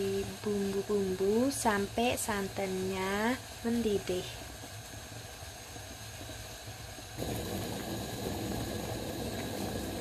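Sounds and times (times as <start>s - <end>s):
milk simmering: 0.0s - 10.0s.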